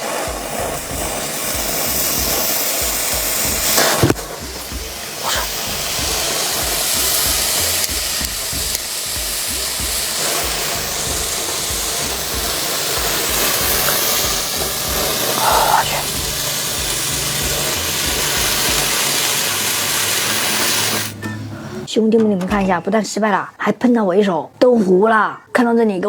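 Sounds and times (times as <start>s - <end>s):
sparkler fizzing hiss: 0.0s - 21.2s
background music with low beat: 0.0s - 22.9s.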